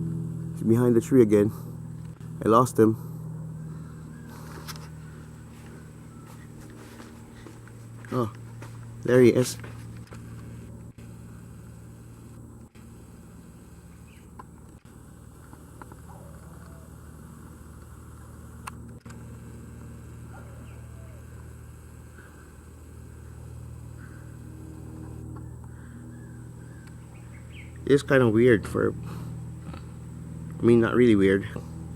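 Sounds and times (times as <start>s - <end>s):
propeller airplane flying over: 0.0s - 31.9s.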